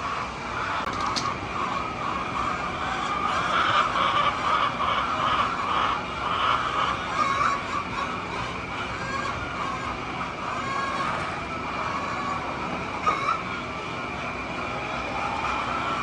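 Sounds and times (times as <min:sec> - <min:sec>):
hens calling: 0:00.6 - 0:16.0.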